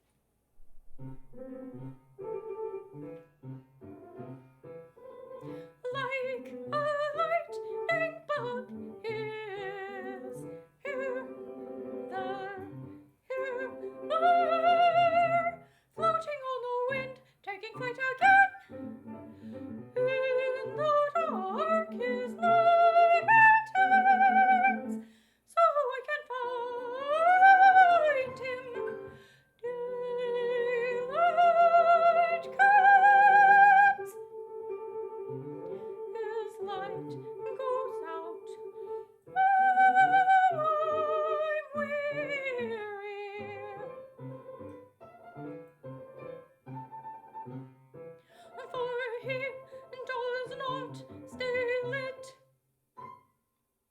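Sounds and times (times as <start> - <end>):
soprano singing opera: 3.9 - 45.6, 48.4 - 52.4.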